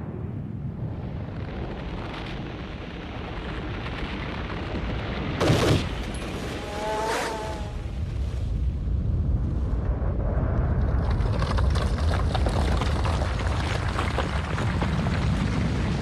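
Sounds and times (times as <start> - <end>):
explosion rumble: 0.0 - 16.0.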